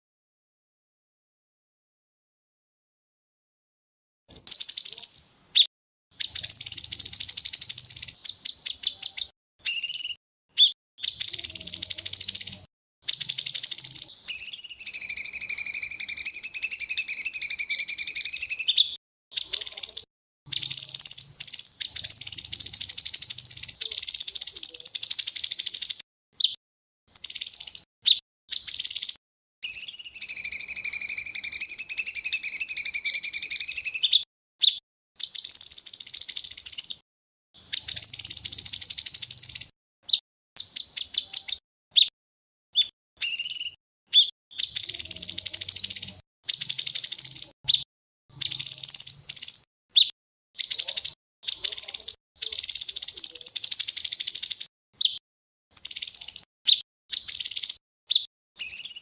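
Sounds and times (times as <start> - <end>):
songbird chattering and trills: 4.3 - 37.0, 37.6 - 42.1, 42.8 - 55.2, 55.8 - 59.0.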